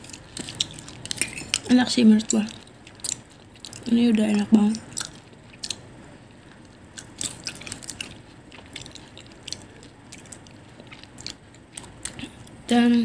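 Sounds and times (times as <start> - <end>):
person chewing: 0.0 - 12.6.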